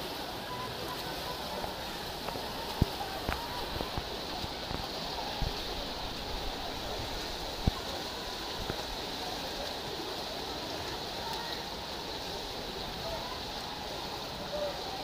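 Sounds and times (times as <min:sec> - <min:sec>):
swimmers splashing in pool: 0:00.0 - 0:15.0.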